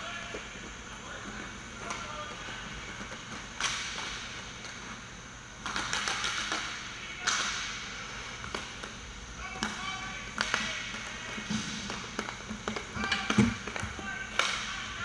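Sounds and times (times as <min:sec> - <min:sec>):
hockey sticks clacking on puck: 0:01.3 - 0:04.8, 0:05.6 - 0:14.9.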